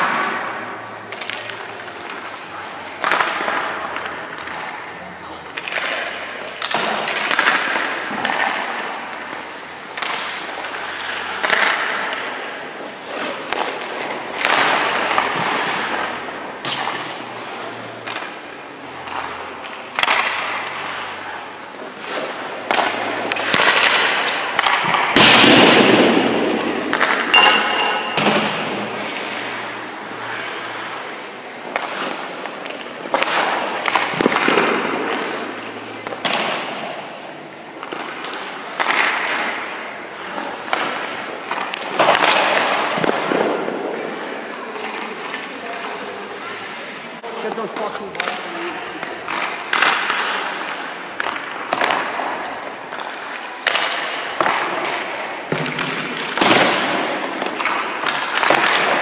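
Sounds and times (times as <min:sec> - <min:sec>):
skate blades scraping ice: 0:00.0 - 0:59.0.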